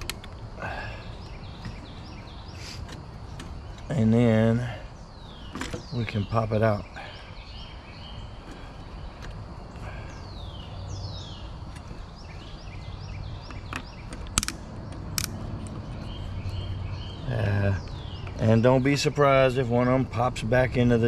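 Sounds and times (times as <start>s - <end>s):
birds singing whistled phrases: 0.6s - 21.0s.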